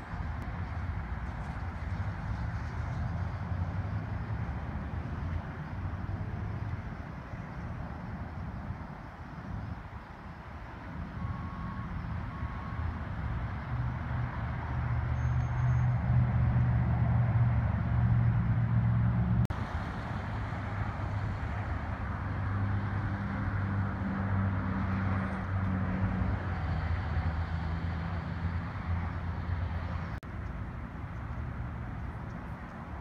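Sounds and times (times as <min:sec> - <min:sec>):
road traffic noise: 0:00.0 - 0:33.0
vehicle engines humming: 0:00.0 - 0:33.0.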